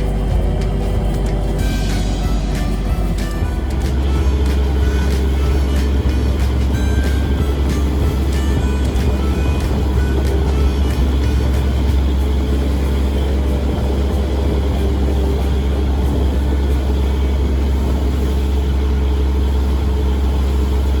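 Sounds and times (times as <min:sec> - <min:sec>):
boat engine low drone: 0:00.0 - 0:21.0.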